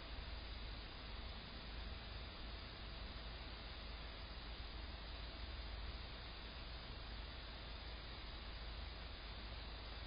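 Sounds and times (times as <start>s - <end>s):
faint room tone hiss: 0.0s - 10.0s.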